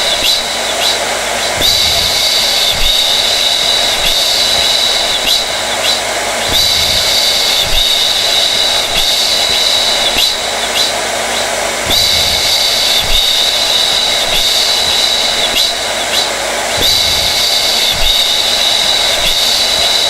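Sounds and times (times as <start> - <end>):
hair dryer running: 0.0 - 20.0.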